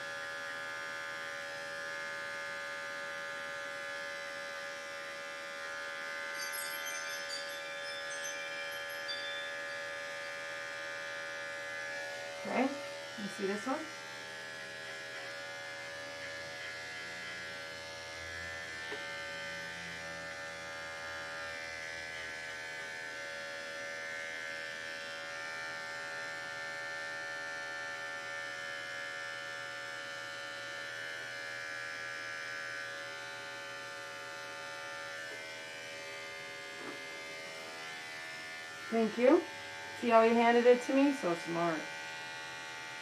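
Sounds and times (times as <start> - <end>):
electric clippers running: 0.0 - 43.0.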